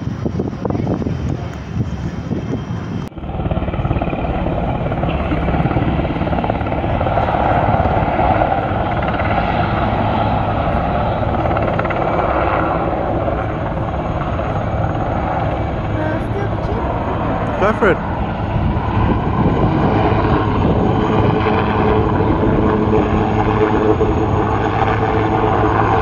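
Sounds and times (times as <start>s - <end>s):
helicopter flying low: 0.0s - 26.0s.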